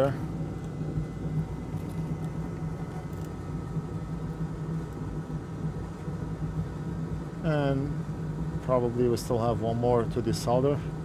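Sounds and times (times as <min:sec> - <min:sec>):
small fan motor humming: 0:00.0 - 0:11.0.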